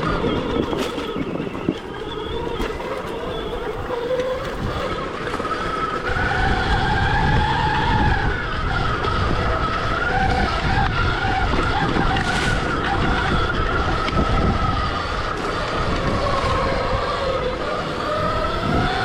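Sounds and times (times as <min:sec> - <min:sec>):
electric motorbike motor whining: 0:00.0 - 0:19.0.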